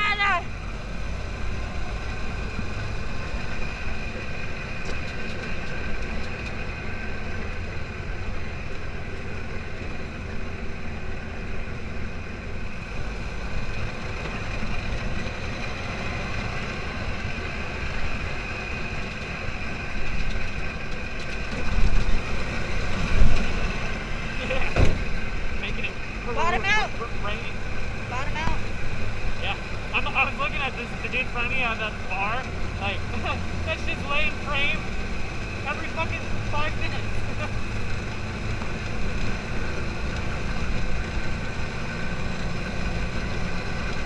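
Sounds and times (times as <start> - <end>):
low rough rumble of wind: 0.0 - 44.0
off-road buggy engine running: 0.0 - 44.0.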